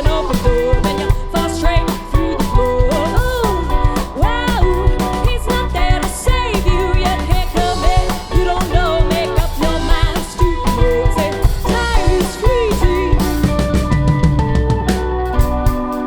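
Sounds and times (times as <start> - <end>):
drums: 0.0 - 16.0
rock band playing live: 0.0 - 16.0.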